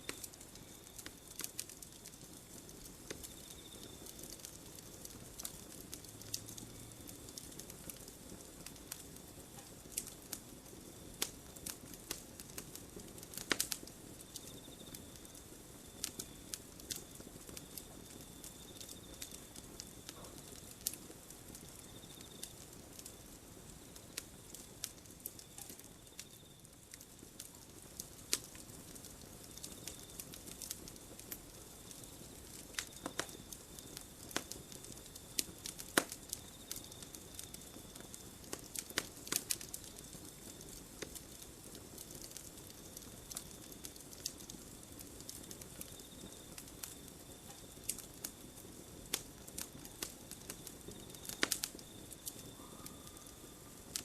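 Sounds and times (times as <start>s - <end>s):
campfire crackling and popping: 0.0s - 54.0s
soft steady hiss: 0.0s - 54.0s.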